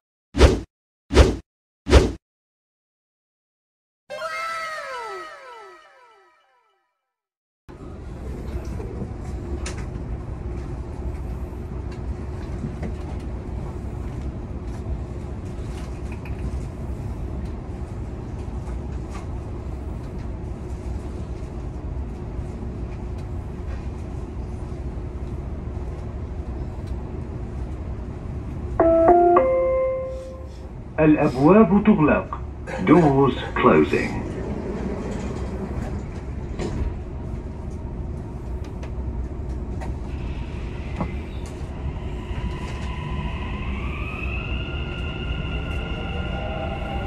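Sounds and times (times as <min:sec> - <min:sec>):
train equipment rumble and hum: 0:07.7 - 0:47.0.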